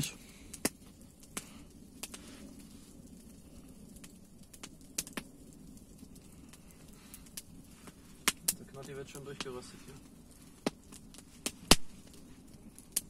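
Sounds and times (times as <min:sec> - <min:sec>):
campfire burning: 0:00.0 - 0:13.0
fire crackling pops: 0:00.0 - 0:13.0.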